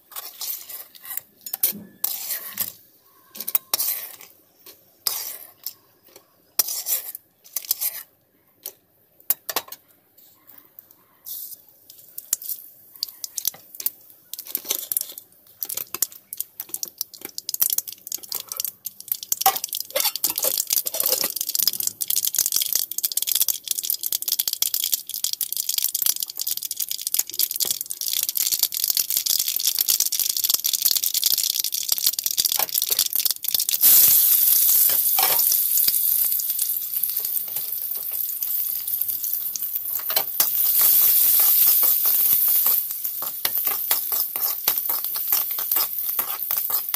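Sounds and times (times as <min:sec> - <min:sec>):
seeds popping in hot oil: 0:00.0 - 0:09.8, 0:11.3 - 0:46.9
spoon stirring in pan: 0:00.0 - 0:09.8, 0:11.3 - 0:46.9.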